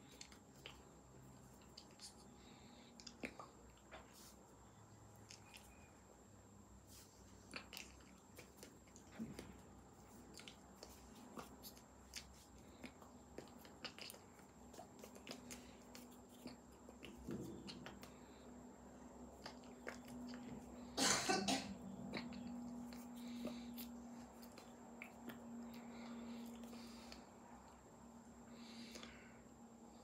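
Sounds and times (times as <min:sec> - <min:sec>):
mouth and lip noises: 0:00.0 - 0:06.0, 0:06.8 - 0:21.0, 0:21.8 - 0:27.9
faint steady hum: 0:00.0 - 0:30.0.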